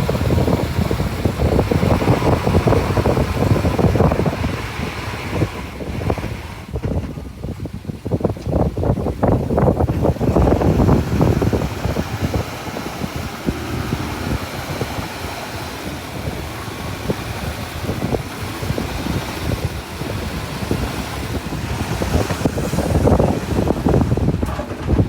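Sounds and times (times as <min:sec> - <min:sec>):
bulldozer diesel engine knocking: 0:00.0 - 0:25.0
wind noise on microphone: 0:00.0 - 0:25.0.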